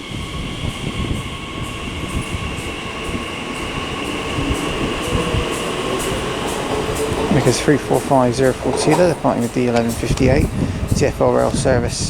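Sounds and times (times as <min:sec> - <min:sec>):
electric train whine: 0:00.0 - 0:12.0
train running noise: 0:00.0 - 0:12.0
wheels clicking on rails: 0:00.0 - 0:12.0.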